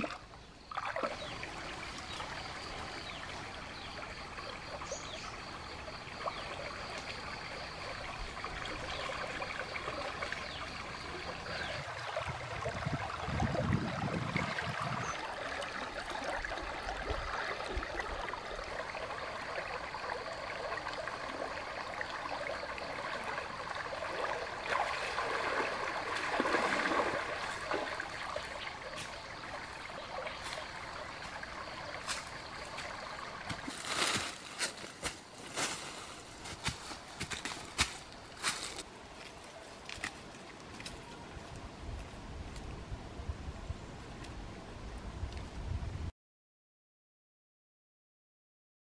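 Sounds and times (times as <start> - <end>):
stream running over rocks: 0.0 - 42.8.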